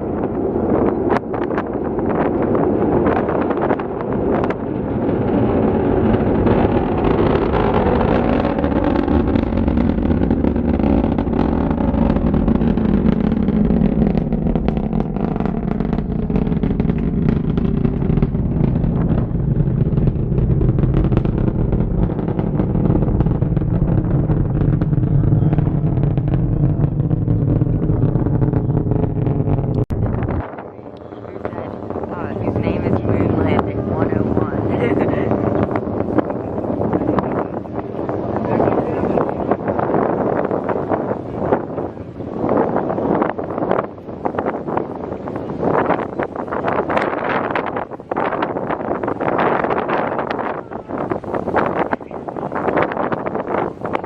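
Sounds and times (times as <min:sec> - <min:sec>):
distant rocket launch roar: 0:00.0 - 0:54.0.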